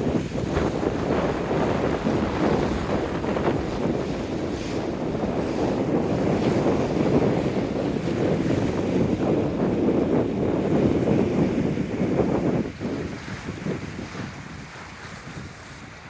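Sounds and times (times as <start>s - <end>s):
lake waves: 0.0s - 16.0s
wind buffeting microphone: 0.0s - 16.0s.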